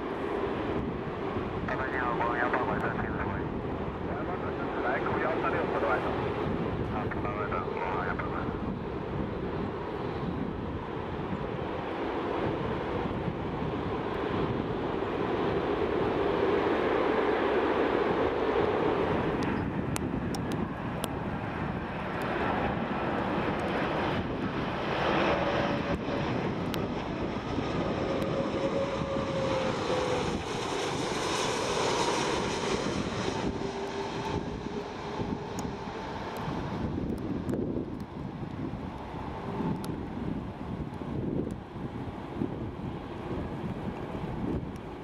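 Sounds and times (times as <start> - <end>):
airliner engine whine on approach: 0.0 - 45.0
jet airliner climbing: 0.4 - 45.0.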